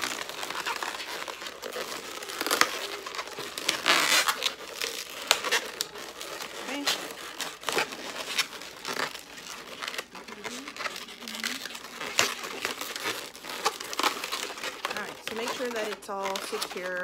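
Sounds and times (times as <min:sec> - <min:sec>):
balloons squeaking and rubbing: 0:00.0 - 0:17.0.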